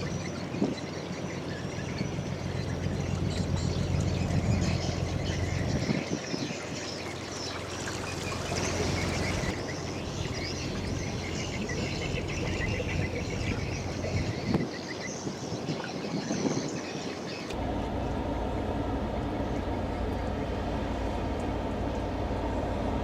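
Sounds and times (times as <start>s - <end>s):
low engine hum: 0.0s - 14.8s, 17.3s - 23.0s
birds chirping: 0.0s - 23.0s.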